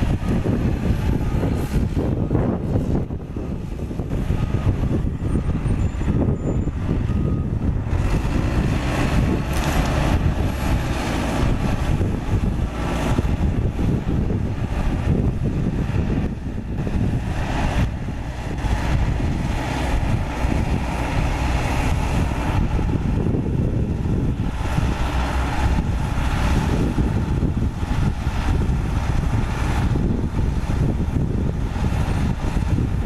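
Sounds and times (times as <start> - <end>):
bulldozer diesel engine under load: 0.0 - 33.0.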